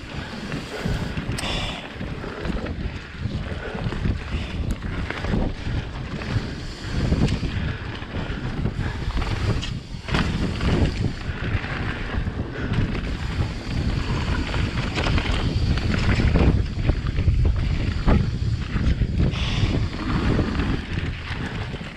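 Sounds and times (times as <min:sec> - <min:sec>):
bike clattering over bumps: 0:00.0 - 0:21.9
tyres rolling on dirt trail: 0:00.0 - 0:21.9
wind buffeting microphone: 0:00.0 - 0:21.9.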